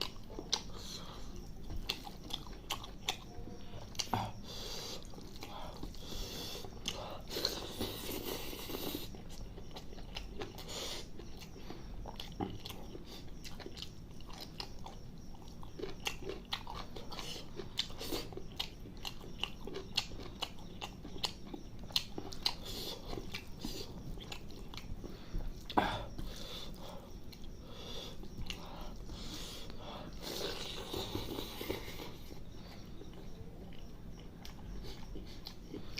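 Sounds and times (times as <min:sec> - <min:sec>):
wet chewing and mouth smacks: 0:00.0 - 0:04.1, 0:04.9 - 0:35.9.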